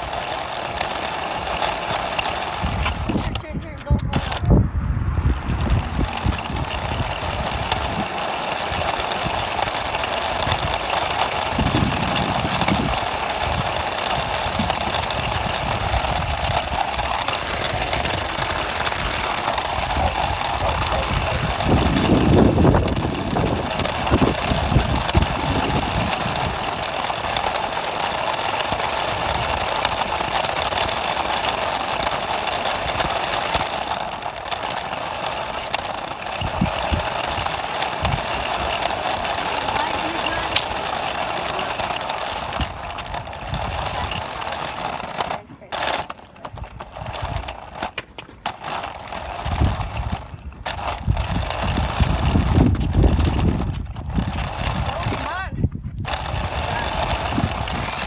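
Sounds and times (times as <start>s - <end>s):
low rumbles: 0.0s - 58.0s
toy car motor and gears: 0.0s - 58.0s.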